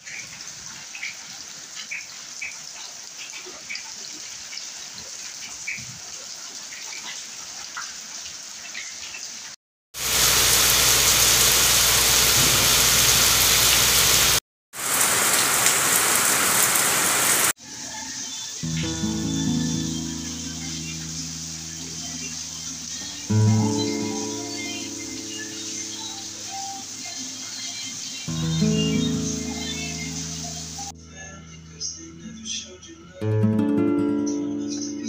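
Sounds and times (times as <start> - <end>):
rain falling: 0.0 - 17.6, 18.6 - 30.9.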